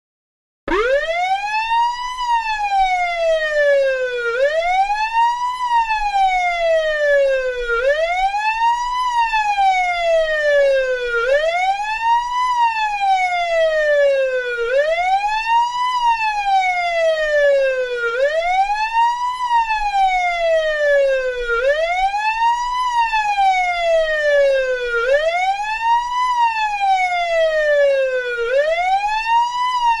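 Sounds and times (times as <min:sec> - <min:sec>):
police car siren wailing: 0:00.7 - 0:30.0.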